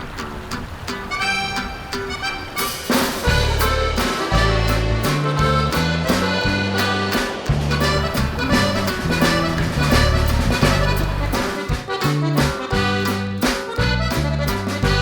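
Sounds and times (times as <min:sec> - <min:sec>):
upbeat music with accordion melody: 0:01.1 - 0:15.0.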